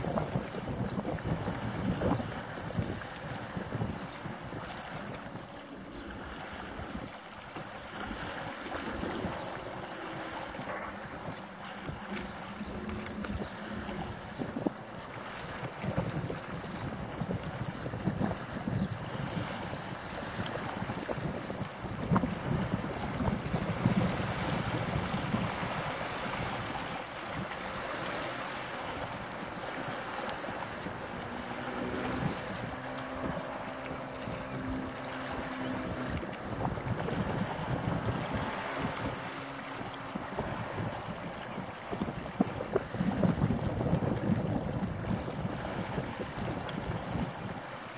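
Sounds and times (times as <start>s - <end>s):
sea waves washing: 0.0s - 47.9s
wind buffeting microphone: 0.0s - 47.9s.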